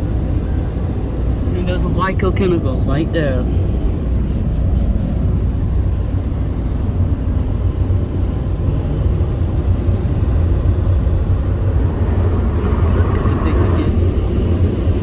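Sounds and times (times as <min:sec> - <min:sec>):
automatic car wash rumble: 0:00.0 - 0:15.0.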